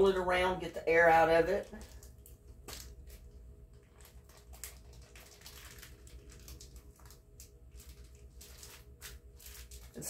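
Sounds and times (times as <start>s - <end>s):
faint steady hum: 0.0s - 10.0s
plastic bag crinkling: 1.4s - 10.0s.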